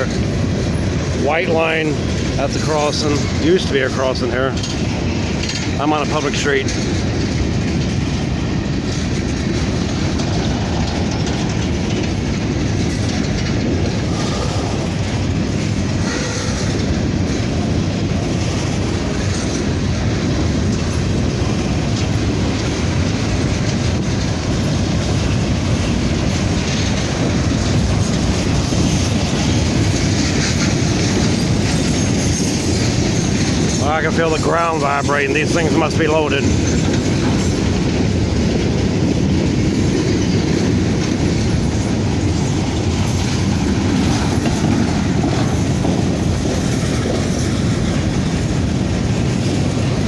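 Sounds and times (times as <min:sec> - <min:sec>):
freight train wheels rumbling on rails: 0:00.0 - 0:50.0.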